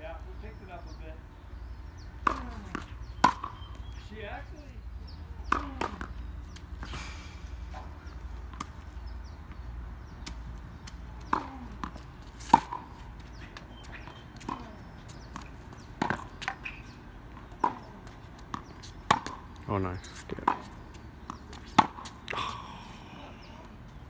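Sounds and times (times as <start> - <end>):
tennis balls bouncing on court: 1.6 - 7.0, 7.6 - 24.0
tennis balls struck with rackets: 1.6 - 7.0, 7.6 - 22.5.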